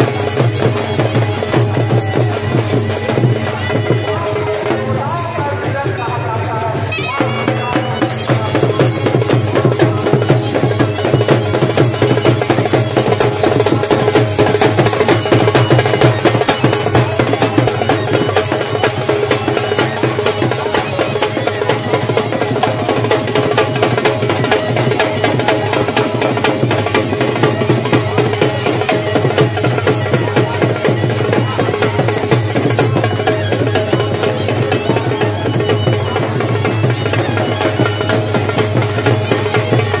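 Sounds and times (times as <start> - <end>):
wind instrument holding notes: 0.0 - 5.7, 6.6 - 40.0
rapid dense drumming: 0.0 - 40.0.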